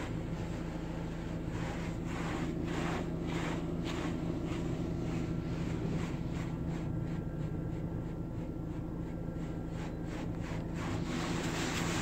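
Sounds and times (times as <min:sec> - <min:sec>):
car engine idling: 0:00.0 - 0:12.0
car wash humming: 0:00.0 - 0:12.0.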